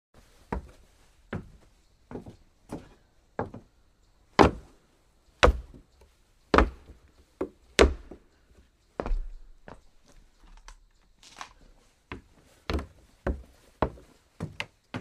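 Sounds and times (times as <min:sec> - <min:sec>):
footsteps on wooden floor: 0:00.2 - 0:03.7, 0:04.4 - 0:04.8, 0:05.4 - 0:10.6, 0:11.2 - 0:15.0.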